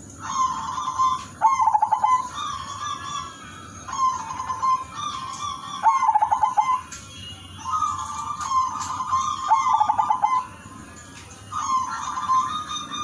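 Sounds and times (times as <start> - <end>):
dove cooing song: 0.0 - 6.9, 7.6 - 10.6, 11.5 - 13.0.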